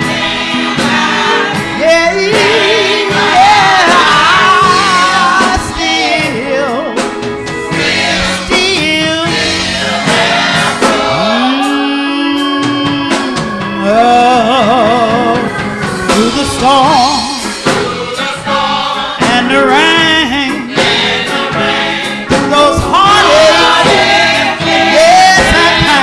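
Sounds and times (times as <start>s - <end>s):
choir singing: 0.0s - 26.0s
lead singer singing gospel: 0.0s - 26.0s
sustained organ chords: 0.0s - 26.0s.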